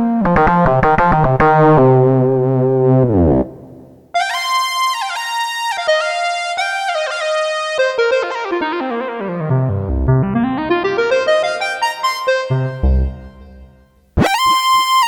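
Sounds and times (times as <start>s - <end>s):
synthesizer keyboard notes: 0.0s - 13.6s, 14.2s - 15.0s.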